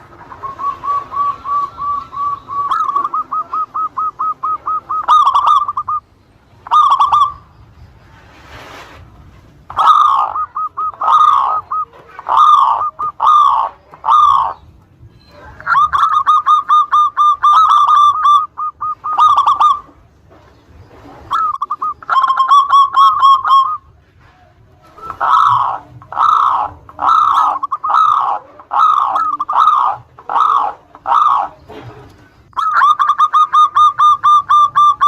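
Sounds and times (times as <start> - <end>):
dove cooing: 0.0 - 7.5, 9.7 - 20.1, 20.9 - 35.0.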